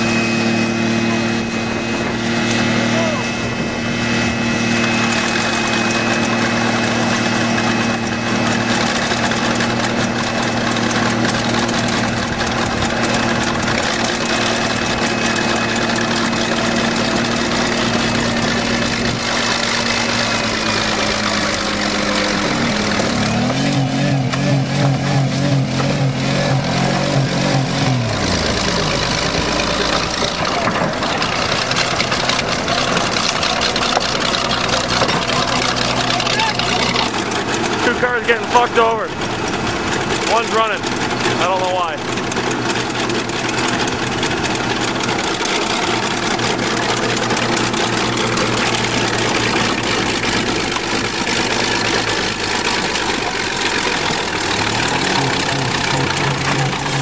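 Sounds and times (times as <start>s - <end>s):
bulldozer engine: 0.0s - 57.0s
car engine at high revs: 0.0s - 57.0s.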